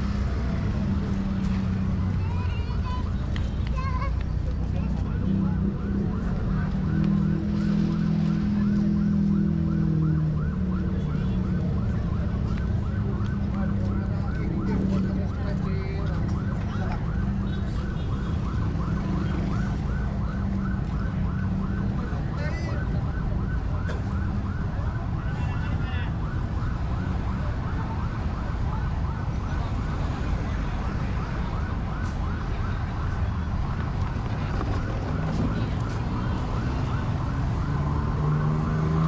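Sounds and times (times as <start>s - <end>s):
street traffic rumble: 0.0s - 39.0s
siren yelping: 4.6s - 39.0s.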